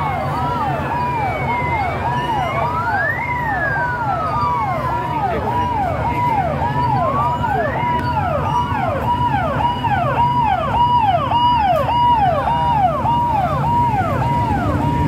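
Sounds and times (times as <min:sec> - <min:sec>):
motorcycle engines rumbling: 0:00.0 - 0:15.0
police sirens wailing: 0:00.0 - 0:15.0.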